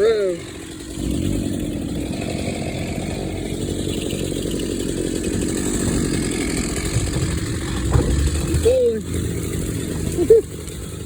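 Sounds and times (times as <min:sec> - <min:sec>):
chainsaw cutting trees: 0:00.0 - 0:11.0.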